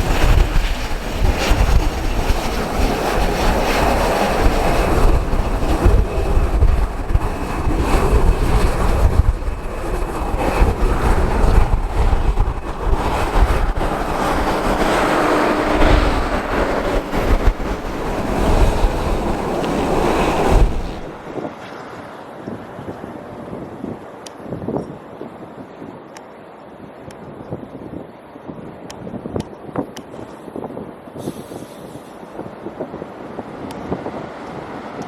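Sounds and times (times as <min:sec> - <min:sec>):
jet engine of landing plane: 0:00.0 - 0:24.5, 0:29.8 - 0:35.0
wind buffeting microphone: 0:00.0 - 0:35.0.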